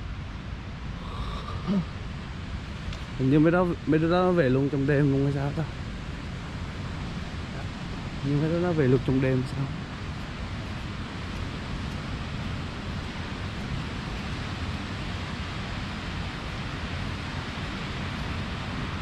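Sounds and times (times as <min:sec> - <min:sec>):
sea surf: 0:00.0 - 0:19.0
wind: 0:00.0 - 0:19.0.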